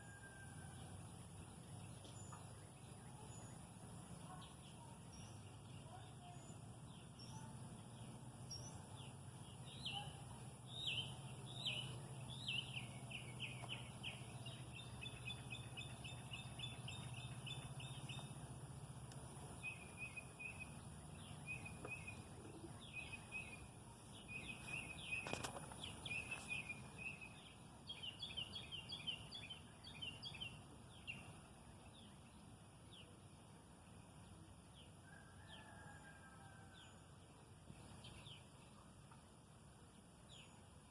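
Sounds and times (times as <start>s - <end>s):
low steady hum: 0.0s - 40.9s
small birds chirping and trilling: 0.1s - 39.0s.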